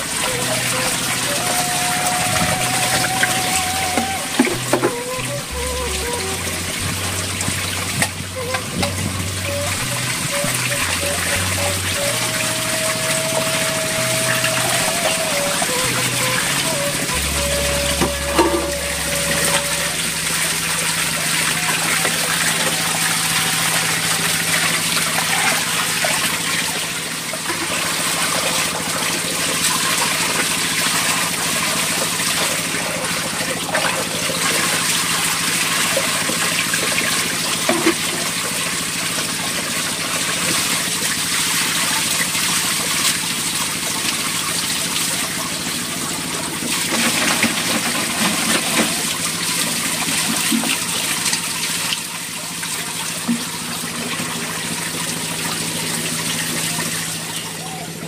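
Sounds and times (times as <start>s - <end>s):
water running: 0.0s - 58.0s.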